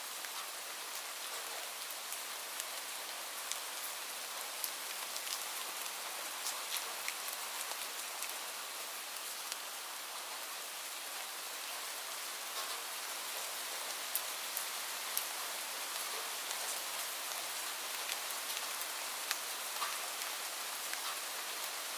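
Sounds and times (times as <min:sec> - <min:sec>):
light rain hiss: 0:00.0 - 0:21.9.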